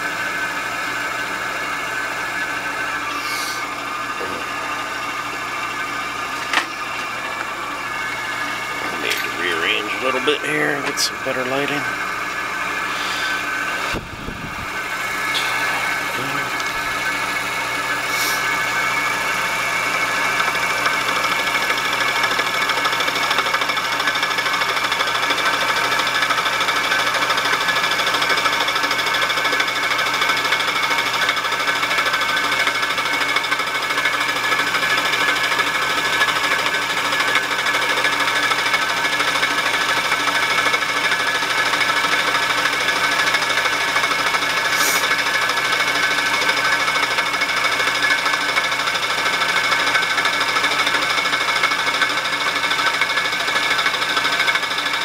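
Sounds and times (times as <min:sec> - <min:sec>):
milling machine whine: 0:00.0 - 0:55.0.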